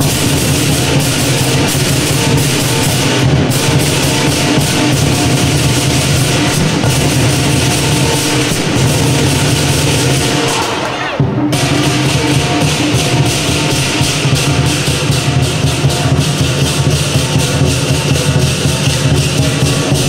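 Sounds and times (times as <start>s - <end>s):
crashing cymbals: 0.0s - 20.0s
pounding drum: 0.0s - 20.0s.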